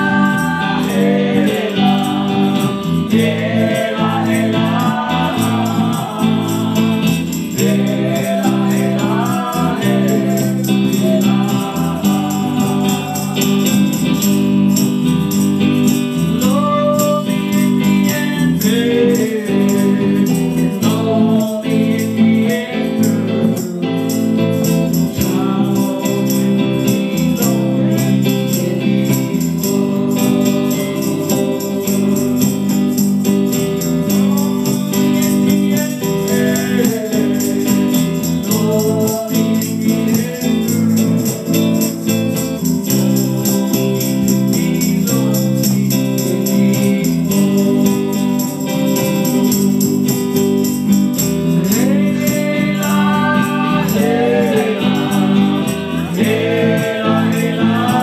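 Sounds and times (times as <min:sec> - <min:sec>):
man singing into a microphone: 0:00.0 - 0:14.3, 0:16.2 - 0:50.2, 0:51.4 - 0:58.0.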